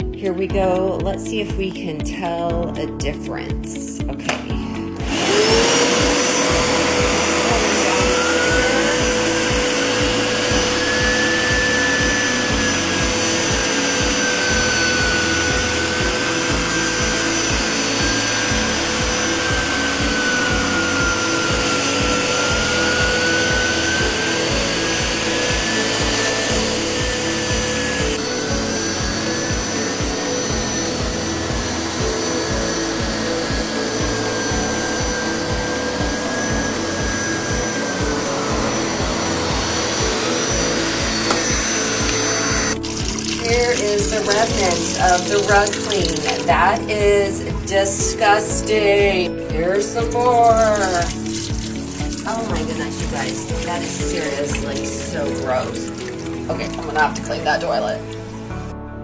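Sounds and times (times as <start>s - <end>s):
carpet cleaner motor whining: 4.3s - 58.8s.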